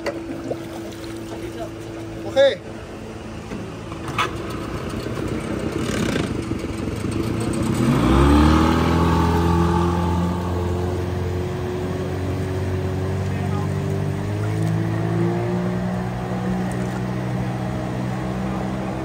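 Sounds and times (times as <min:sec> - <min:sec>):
outboard motor revving: 0:00.0 - 0:19.0.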